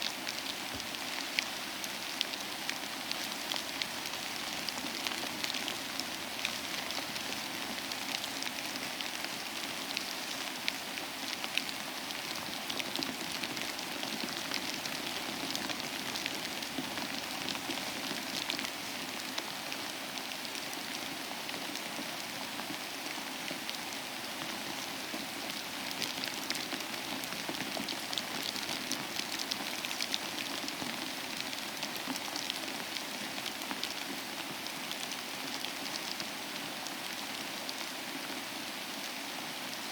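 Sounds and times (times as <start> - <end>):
raindrops ticking on a surface: 0.0 - 37.9
steady rain falling: 0.0 - 39.9.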